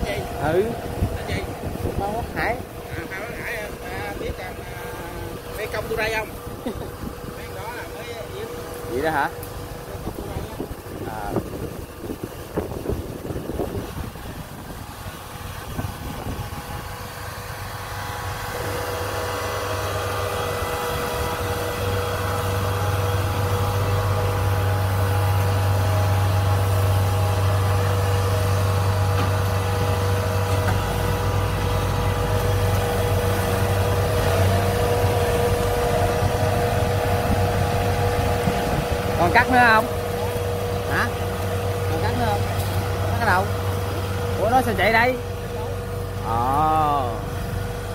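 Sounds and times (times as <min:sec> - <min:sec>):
diesel engine running with whine: 0:00.0 - 0:47.9.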